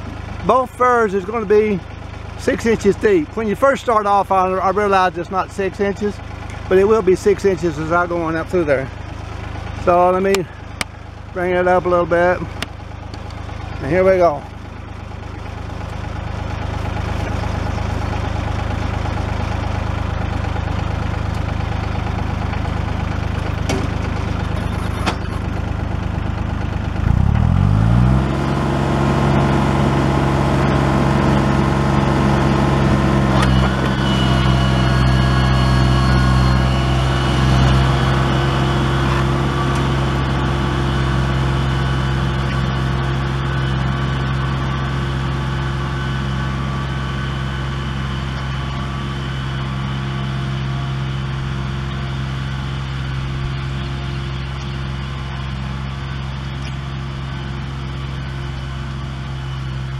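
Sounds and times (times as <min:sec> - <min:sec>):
tractor engine idling and revving: 0:00.0 - 0:59.9.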